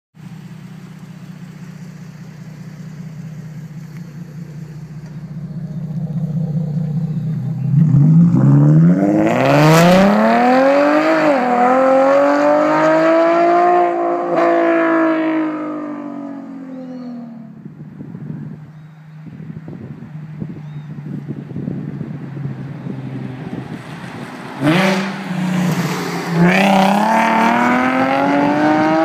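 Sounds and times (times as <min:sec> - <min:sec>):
car engine revving: 0:00.3 - 0:17.9, 0:21.8 - 0:29.0.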